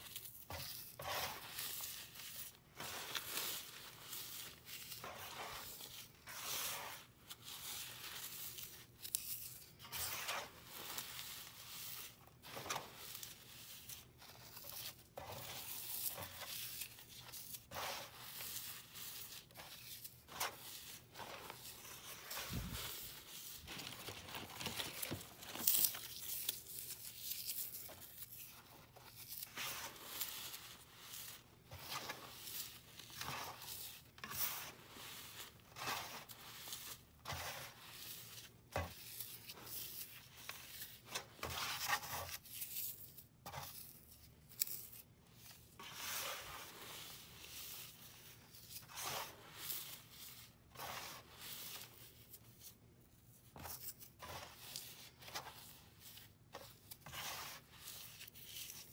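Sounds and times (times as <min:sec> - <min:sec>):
dry foam crunching and rustling: 0:00.0 - 0:52.8.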